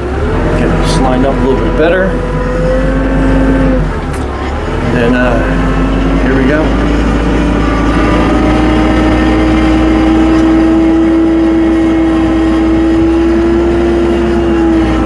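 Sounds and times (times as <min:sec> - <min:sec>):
tractor engine whining: 0:00.0 - 0:15.0.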